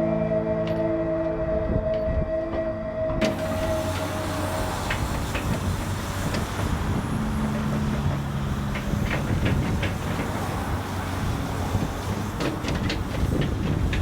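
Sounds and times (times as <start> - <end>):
vehicle rumble in motion: 0.0 - 14.0.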